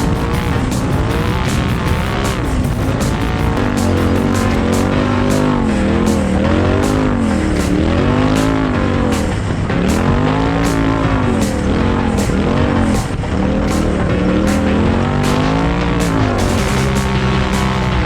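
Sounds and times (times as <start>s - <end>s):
background music with steady beat: 0.0s - 18.0s
vehicle engine revving: 0.0s - 18.0s.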